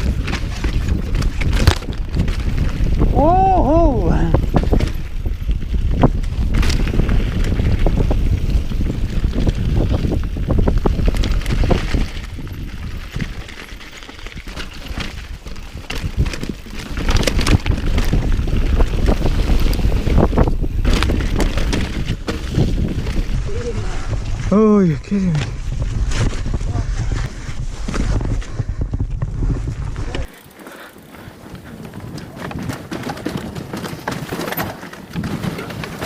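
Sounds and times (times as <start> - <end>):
bike clicks and knocks: 0.0 - 3.1, 4.4 - 23.4, 27.8 - 36.0
bike tyre rumble: 0.0 - 36.0
wind buffeting microphone: 0.0 - 36.0.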